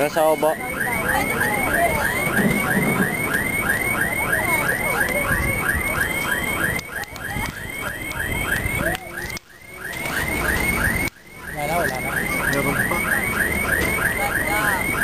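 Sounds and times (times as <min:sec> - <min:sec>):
car alarm chirping: 0:00.0 - 0:15.0.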